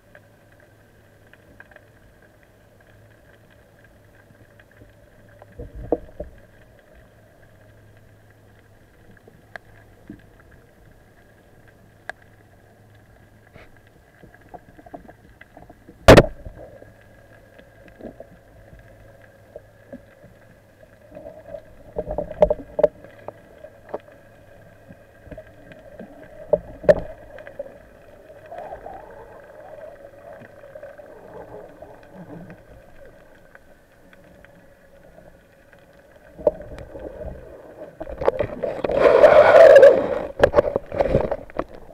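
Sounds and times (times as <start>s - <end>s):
low underwater hum: 0.0s - 41.9s
water sloshing and gurgling: 0.0s - 41.9s.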